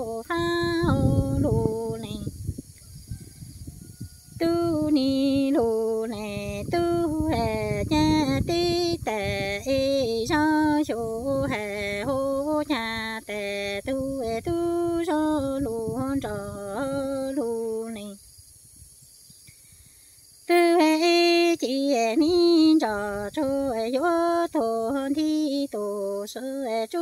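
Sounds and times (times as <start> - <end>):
woman singing unaccompanied: 0.0 - 2.5, 4.1 - 18.3, 20.4 - 27.0.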